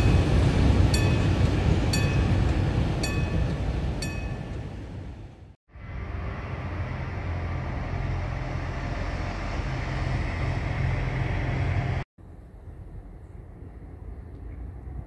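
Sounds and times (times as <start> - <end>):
diesel locomotive engine rumbling: 0.0 - 15.0.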